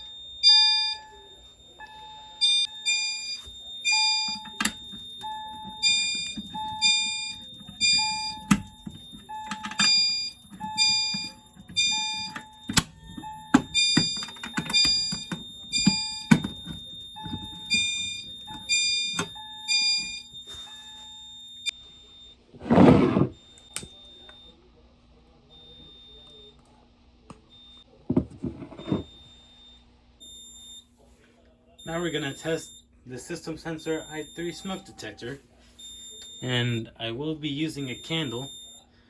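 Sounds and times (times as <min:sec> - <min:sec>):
fire alarm chime tones: 0:00.0 - 0:24.6, 0:31.8 - 0:38.8.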